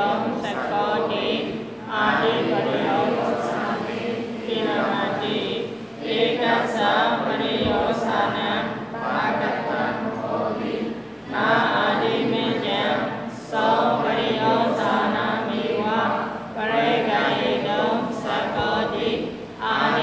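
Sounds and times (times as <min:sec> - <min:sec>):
person reciting in a chanting tone: 0:00.0 - 0:20.0.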